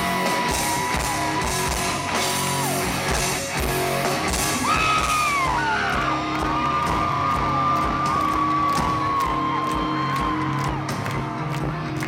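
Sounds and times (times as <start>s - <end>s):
audience cries and whoops: 0.0s - 3.5s, 4.3s - 12.0s
drums and cymbal hits: 0.0s - 11.9s
electric guitar: 0.0s - 12.0s.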